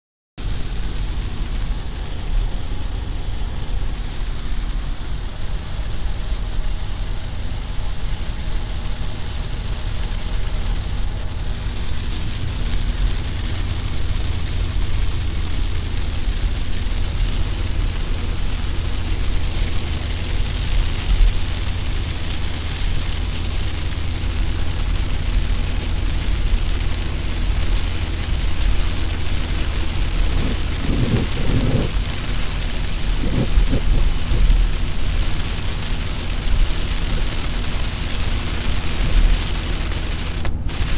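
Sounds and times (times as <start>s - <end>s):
car engine and road drone: 0.4s - 40.9s
rain hissing on windshield: 0.4s - 40.9s.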